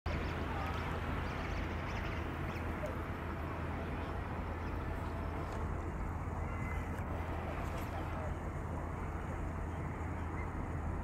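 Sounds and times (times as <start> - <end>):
wind rumble on microphone: 0.1 - 11.0.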